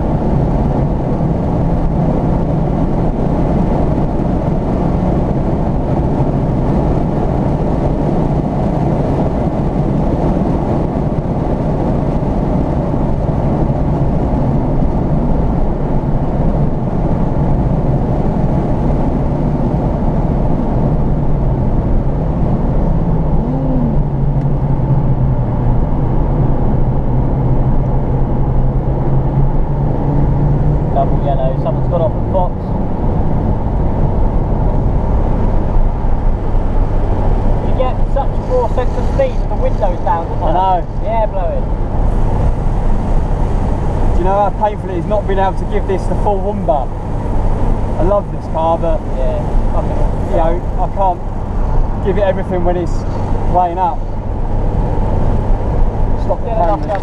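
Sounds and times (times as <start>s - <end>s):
car engine running at speed: 0.0s - 57.0s
road and wind noise: 0.0s - 57.0s.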